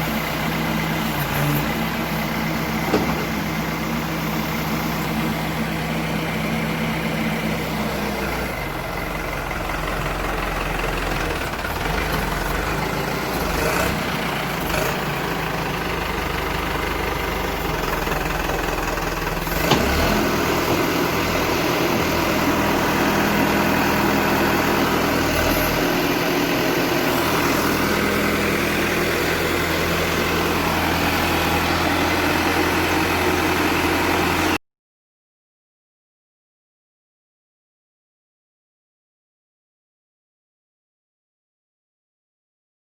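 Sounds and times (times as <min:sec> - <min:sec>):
diesel engine running: 0:00.0 - 0:34.6.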